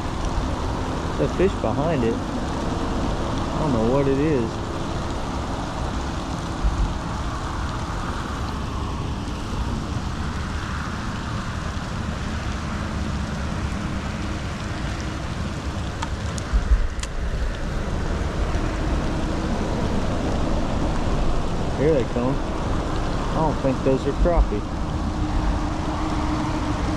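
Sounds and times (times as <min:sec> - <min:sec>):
rain on water and boat: 0:00.0 - 0:26.9.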